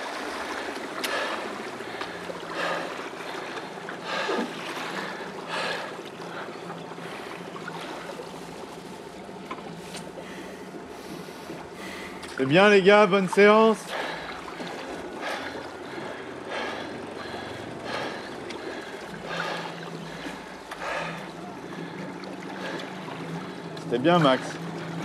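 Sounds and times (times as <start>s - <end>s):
water lapping against boat hull: 0.0s - 25.0s.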